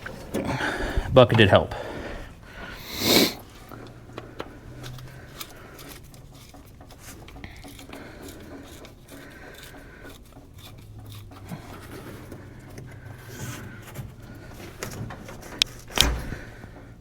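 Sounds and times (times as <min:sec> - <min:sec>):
tools clinking and scraping: 0:03.2 - 0:17.0.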